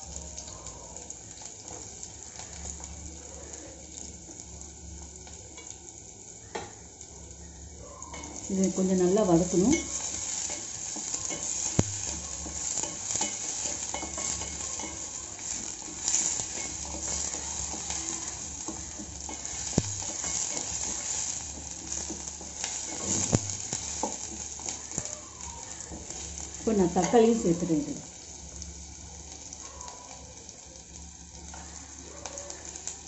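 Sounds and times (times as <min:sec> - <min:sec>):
onions sizzling in oil: 0:00.0 - 0:33.0.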